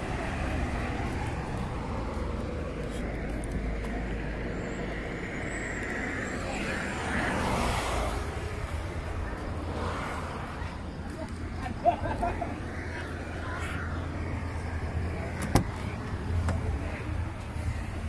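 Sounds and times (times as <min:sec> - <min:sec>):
road traffic rumble: 0:00.0 - 0:18.0
vehicle passing: 0:00.0 - 0:18.0.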